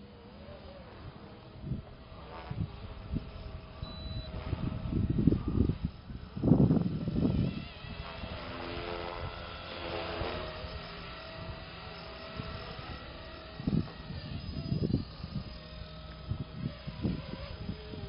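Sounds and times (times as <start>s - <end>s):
rc helicopter rotor whine: 0.0s - 18.0s
wind gusts on microphone: 1.5s - 18.0s.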